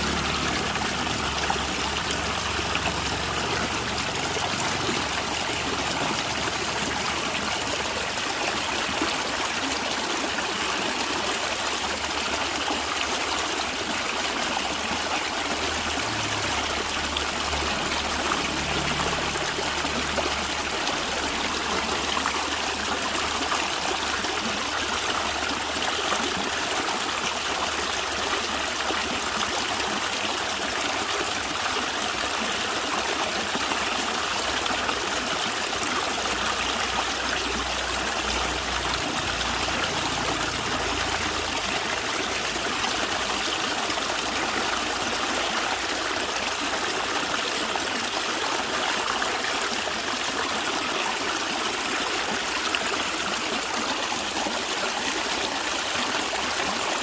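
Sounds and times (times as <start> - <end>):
stream gurgling over stones: 0.0 - 57.0.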